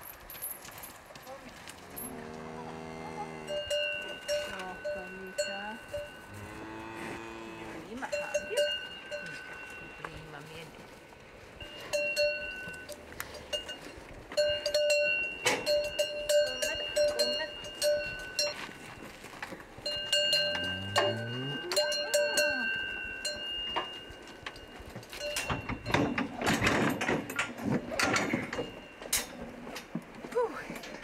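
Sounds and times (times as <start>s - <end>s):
livestock bells clanking: 0.0s - 10.7s, 11.6s - 29.9s.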